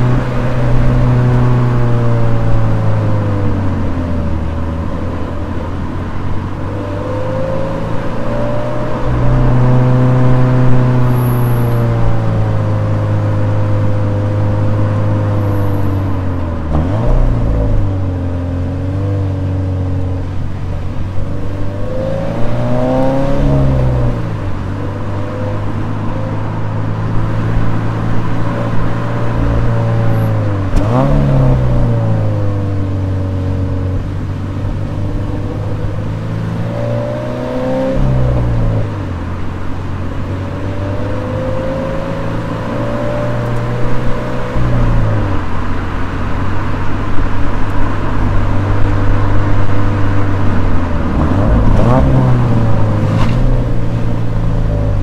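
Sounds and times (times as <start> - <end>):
car engine with gear changes: 0.0 - 55.0.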